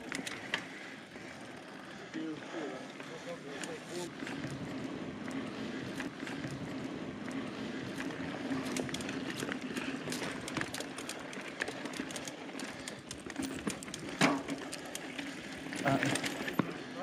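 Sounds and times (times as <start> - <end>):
bike clicks and rattles: 0.0 - 17.0
bike tyre hum on dirt: 0.0 - 17.0.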